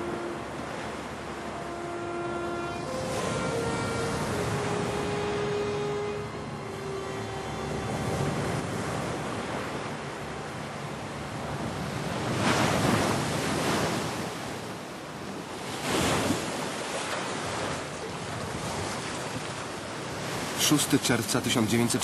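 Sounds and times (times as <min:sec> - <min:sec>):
ocean surf washing in: 0:00.0 - 0:22.0
wind: 0:00.0 - 0:22.0.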